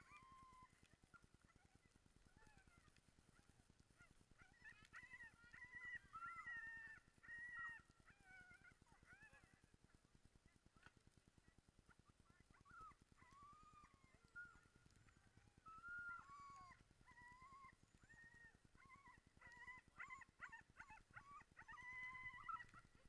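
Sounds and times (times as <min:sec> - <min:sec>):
sled dogs yelping and howling: 0:00.0 - 0:11.1, 0:11.9 - 0:23.0.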